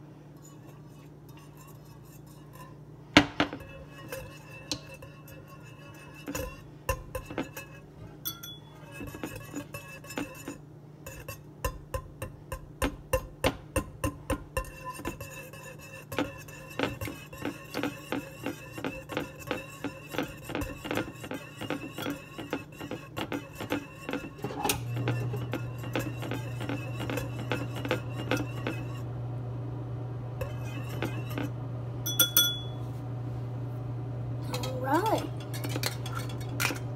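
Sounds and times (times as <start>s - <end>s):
whisk clinking against bowl: 0.3s - 29.3s, 30.3s - 32.9s, 34.5s - 36.9s.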